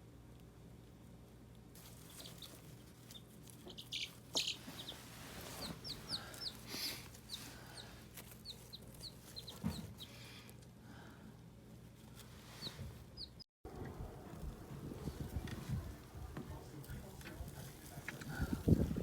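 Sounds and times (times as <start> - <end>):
chicks peeping: 1.8 - 10.4, 12.1 - 19.0.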